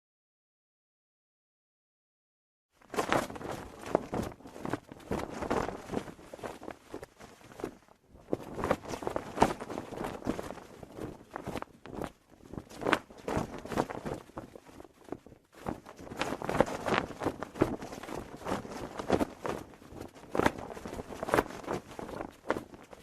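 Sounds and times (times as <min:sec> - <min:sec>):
flag flapping in the wind: 0:02.8 - 0:23.0.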